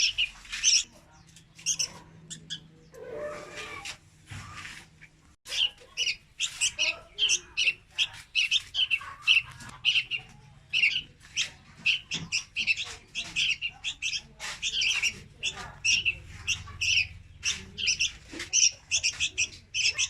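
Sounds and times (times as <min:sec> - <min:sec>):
bird high chirps: 0:00.0 - 0:04.8, 0:05.5 - 0:20.0.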